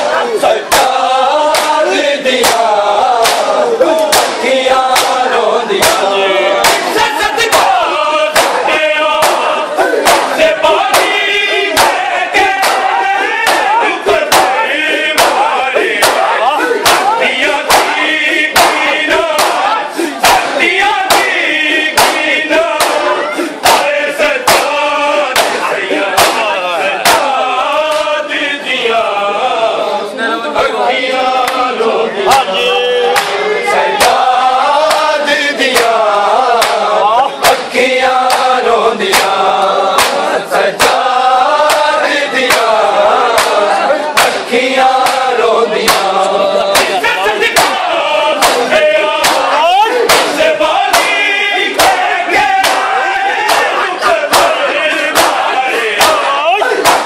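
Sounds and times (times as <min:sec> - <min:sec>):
group of voices chanting: 0:00.0 - 0:57.0
man chanting a lament: 0:00.0 - 0:57.0
hands slapping chests: 0:00.7 - 0:28.2, 0:33.1 - 0:33.4, 0:34.0 - 0:57.0.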